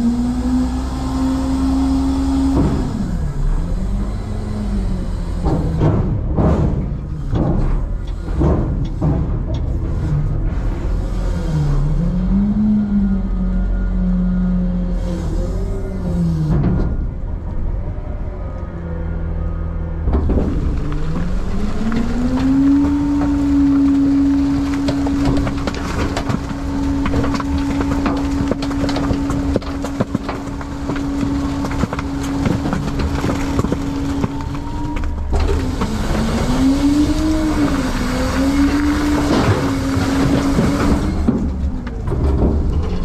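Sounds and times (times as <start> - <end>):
trash crackling and crunching: 0.0 - 12.7, 19.1 - 43.0
garbage truck engine: 0.0 - 43.0.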